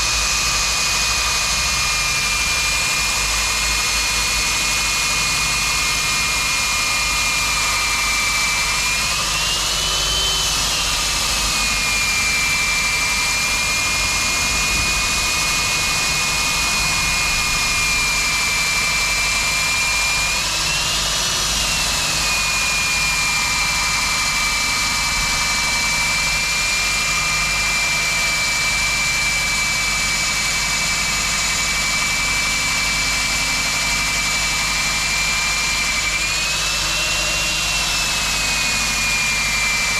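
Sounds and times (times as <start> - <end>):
core drill cutting concrete: 0.0 - 39.9.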